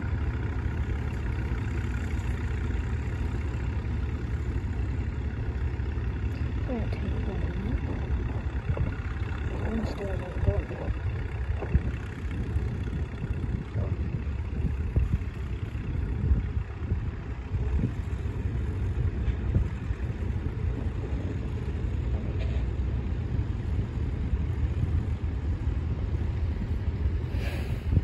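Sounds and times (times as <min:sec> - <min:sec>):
tractor engines rumbling: 0:00.0 - 0:28.0
wind buffeting microphone: 0:05.5 - 0:28.0.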